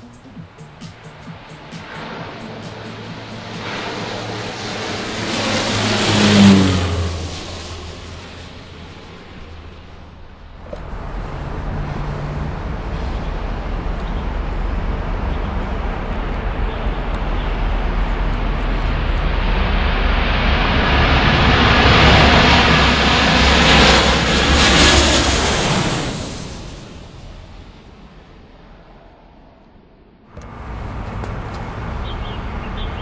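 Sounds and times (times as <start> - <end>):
jet airliner flying overhead: 0.0 - 33.0.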